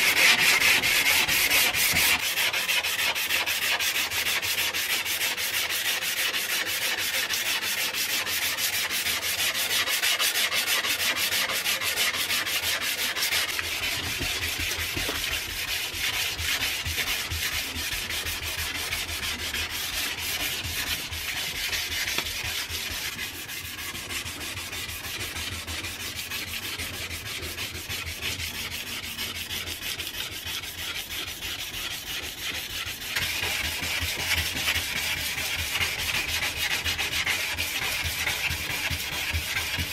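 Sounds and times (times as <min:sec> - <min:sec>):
sandpaper scraping metal blade: 0:00.0 - 0:39.9.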